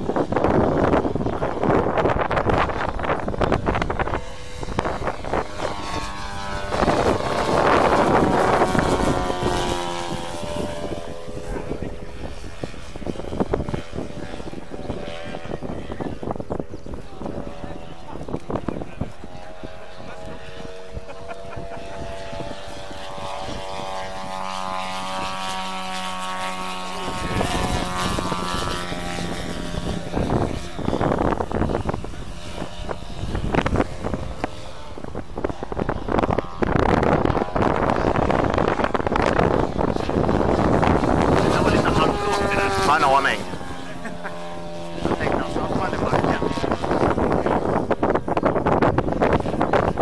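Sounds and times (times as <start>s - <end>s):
model plane engine and propeller: 0.0s - 50.0s.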